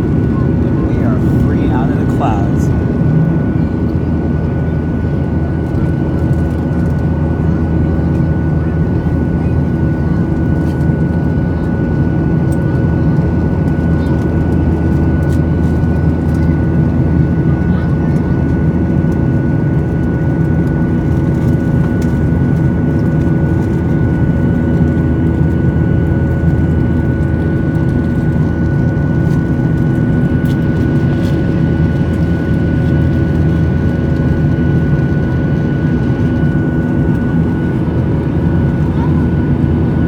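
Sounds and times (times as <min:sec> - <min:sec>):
jet engine drone in cabin: 0:00.0 - 0:40.0.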